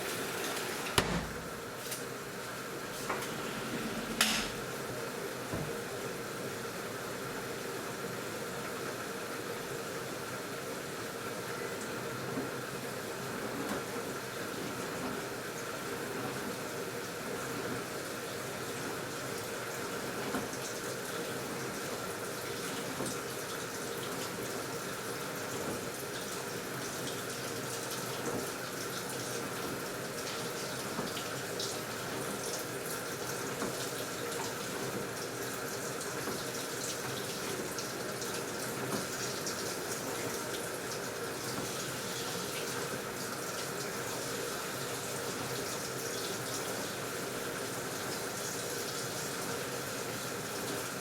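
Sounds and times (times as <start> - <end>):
water pouring into washing machine: 0.0 - 1.8, 2.6 - 6.0, 12.2 - 51.0.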